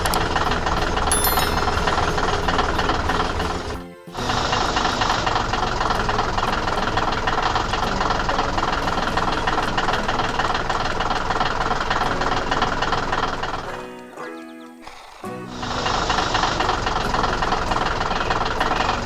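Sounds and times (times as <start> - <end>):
heavy engine knocking rattle: 0.0 - 13.8, 15.5 - 19.0.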